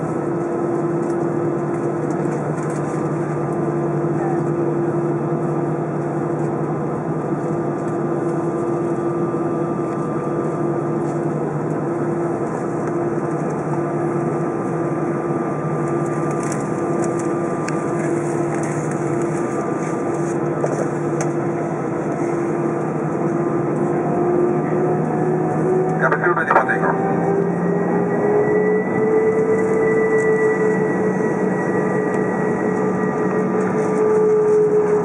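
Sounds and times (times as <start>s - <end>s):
jet engines idling in cabin: 0.0s - 35.0s.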